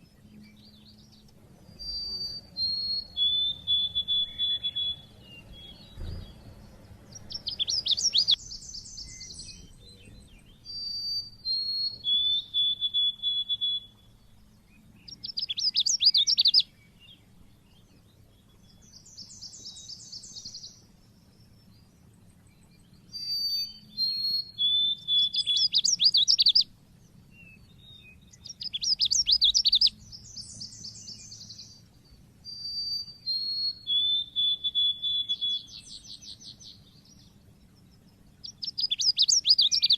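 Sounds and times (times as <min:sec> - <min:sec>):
bird chirping trills and whistles: 0:00.0 - 0:39.9.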